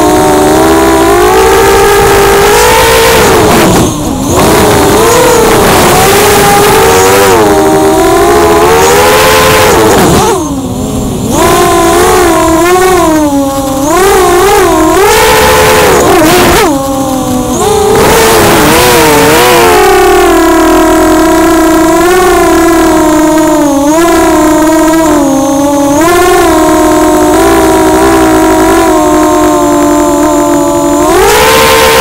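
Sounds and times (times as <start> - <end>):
racing drone motors whining: 0.0 - 32.0.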